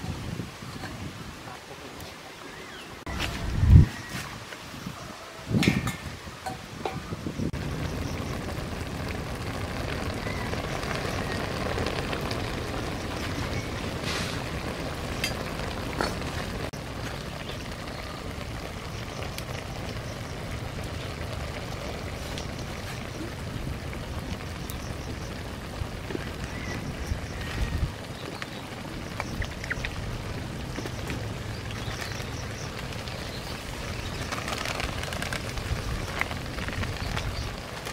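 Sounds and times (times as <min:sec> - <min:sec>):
broth simmering and sizzling: 0:00.0 - 0:37.9.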